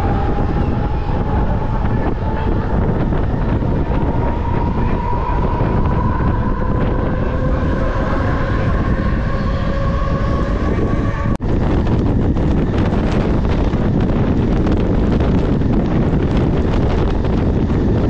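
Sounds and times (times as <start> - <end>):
train motors whining: 0.0 - 17.4
rumble of wheels: 0.0 - 18.0.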